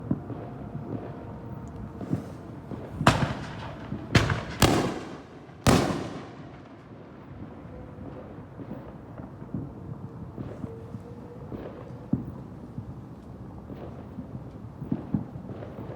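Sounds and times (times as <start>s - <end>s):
fireworks booms: 0.0s - 10.9s, 13.6s - 15.9s
fireworks rumble: 0.0s - 15.9s
small fireworks pops: 0.0s - 15.9s.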